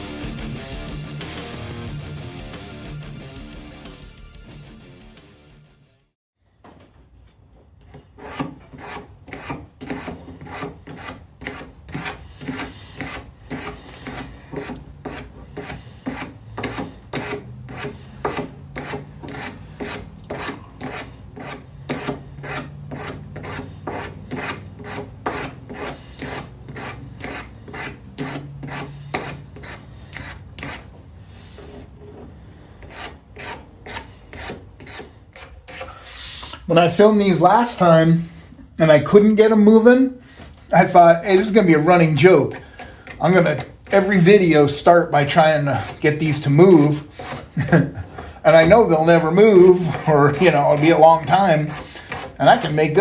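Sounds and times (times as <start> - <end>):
hand scraping rusty metal: 7.2 - 38.5, 40.4 - 53.0.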